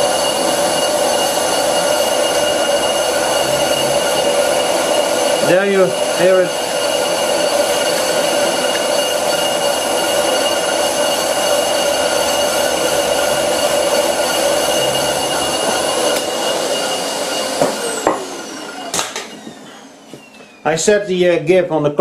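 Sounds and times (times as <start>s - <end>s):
lathe cutting with ringing whine: 0.0s - 20.9s.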